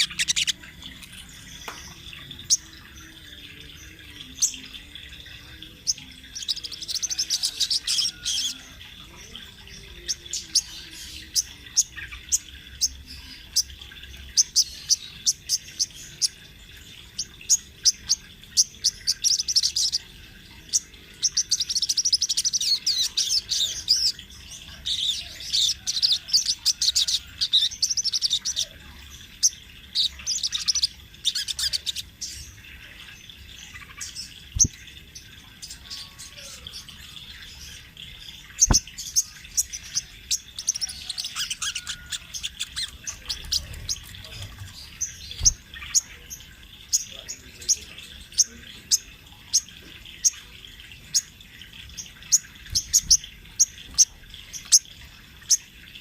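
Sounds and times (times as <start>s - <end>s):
bird singing rapid high chirps: 0.0s - 56.0s.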